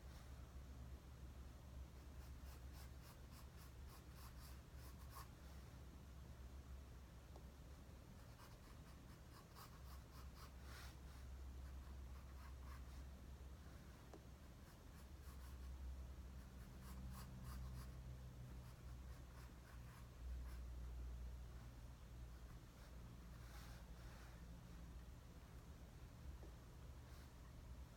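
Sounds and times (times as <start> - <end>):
low steady hum: 0.0 - 27.9.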